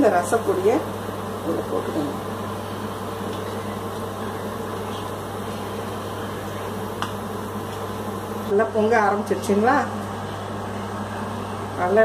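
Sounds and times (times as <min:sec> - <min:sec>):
mechanical hum and hiss: 0:00.0 - 0:12.0.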